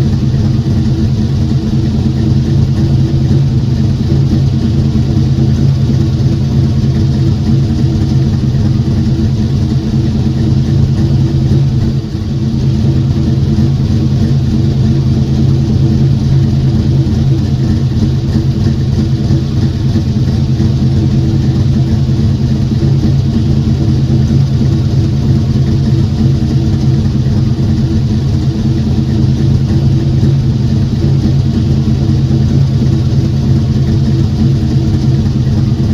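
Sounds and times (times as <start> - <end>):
car engine running steadily: 0.0 - 35.9.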